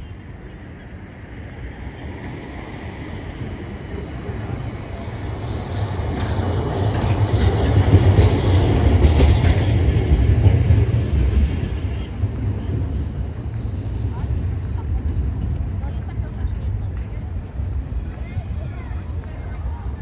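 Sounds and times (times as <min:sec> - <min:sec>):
tram passing on rails: 0:00.0 - 0:20.0.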